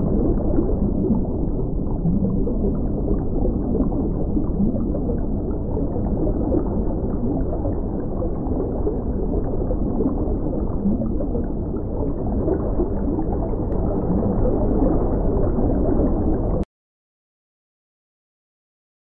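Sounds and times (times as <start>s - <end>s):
pond water sloshing and gurgling: 0.0s - 16.6s.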